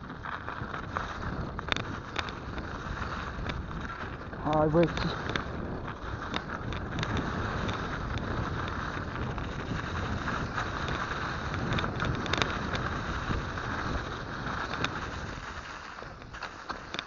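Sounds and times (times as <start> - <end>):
bike clicking and rattling: 0.0 - 17.0
wind rushing on microphone: 0.0 - 17.0.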